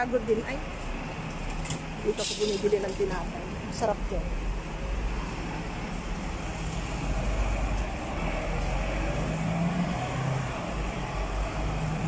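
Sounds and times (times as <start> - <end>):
bus engine running: 0.0 - 12.0
cars passing: 0.0 - 12.0.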